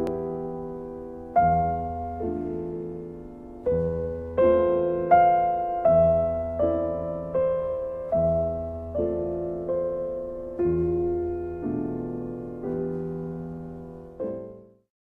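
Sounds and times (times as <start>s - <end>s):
solo piano slow chords: 0.0s - 14.9s.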